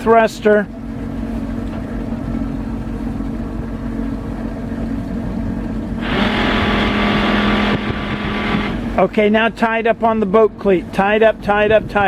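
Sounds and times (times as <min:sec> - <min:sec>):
boat engine idling: 0:00.6 - 0:11.6
stern thruster whirring: 0:00.6 - 0:12.0.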